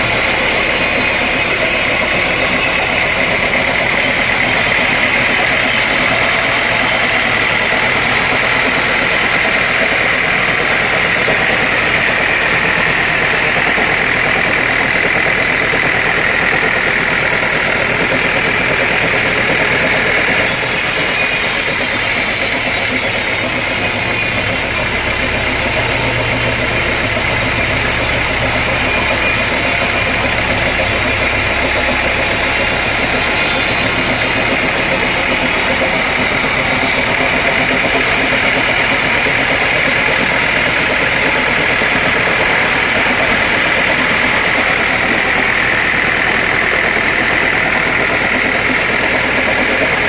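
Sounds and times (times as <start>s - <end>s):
sawmill machinery drone: 0.0s - 50.0s.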